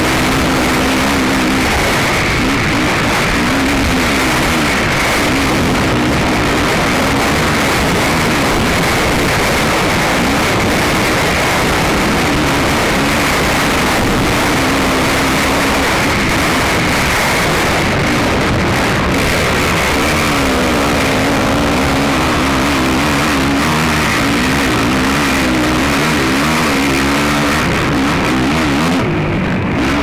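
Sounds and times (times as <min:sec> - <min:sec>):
wind buffeting microphone: 0:00.0 - 0:27.0
atv engine revving: 0:00.0 - 0:30.0.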